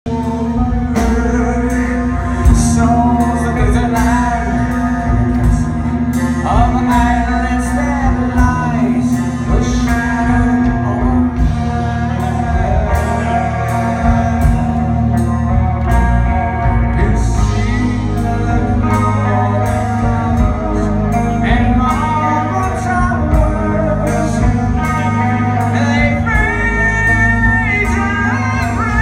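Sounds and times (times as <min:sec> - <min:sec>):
heavy metal band playing live: 0:00.0 - 0:29.0
man singing: 0:00.0 - 0:29.0.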